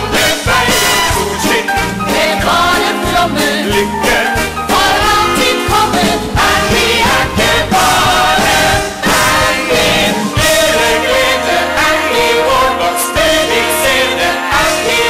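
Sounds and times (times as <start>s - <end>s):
ensemble singing in chorus: 0.0s - 15.0s
orchestral accompaniment: 0.0s - 15.0s.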